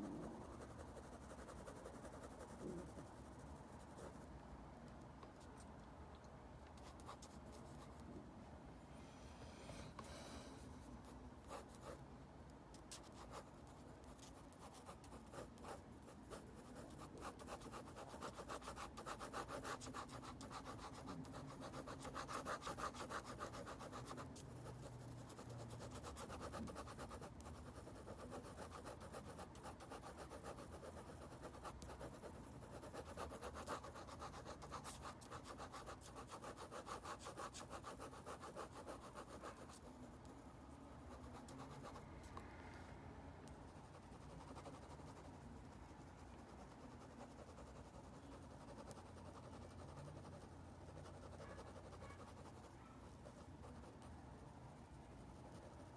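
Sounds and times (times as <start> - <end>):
pencil scratching on paper: 0.0 - 4.2, 11.0 - 12.0, 12.8 - 40.4, 41.0 - 42.0, 43.7 - 55.9.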